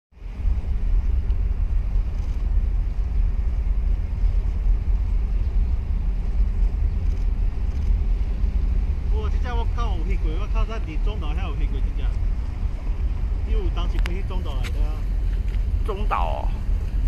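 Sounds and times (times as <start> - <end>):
boat engine rumbling: 0.1 - 17.0.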